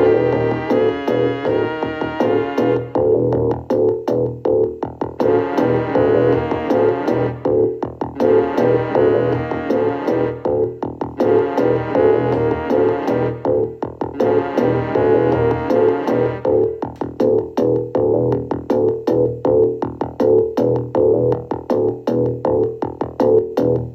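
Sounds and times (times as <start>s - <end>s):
keyboard and synthesizer music: 0.0s - 23.9s.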